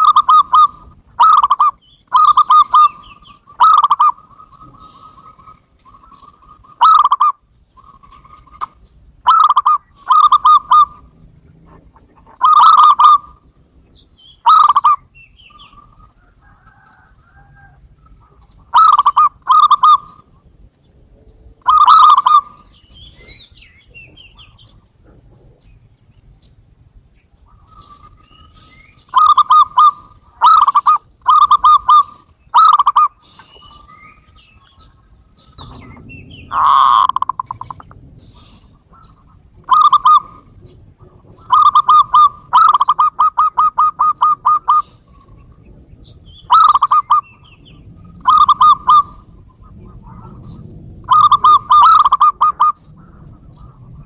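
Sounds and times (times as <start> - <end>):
swelling bird call: 0.0 - 11.2, 12.2 - 20.5, 21.6 - 24.9, 27.3 - 54.0
doves cooing staccato: 0.0 - 54.0.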